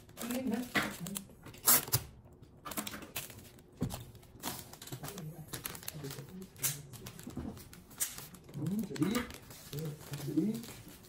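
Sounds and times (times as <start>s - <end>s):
wrapping paper crackling: 0.0s - 11.0s.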